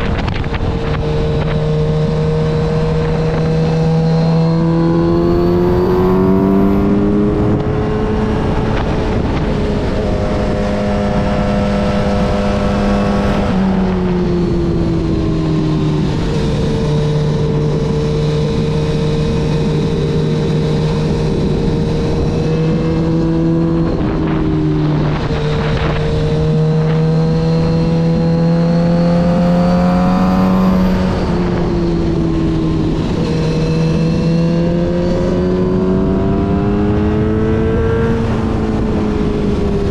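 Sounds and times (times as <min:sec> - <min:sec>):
motorcycle engine revving: 0:00.0 - 0:39.9
wind rushing: 0:00.0 - 0:39.9.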